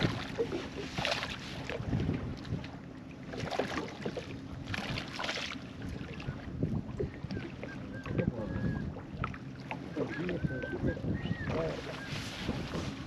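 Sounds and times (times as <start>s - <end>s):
wind on microphone: 0.0s - 2.8s, 3.7s - 13.0s
water sloshing and splashing: 0.0s - 13.0s.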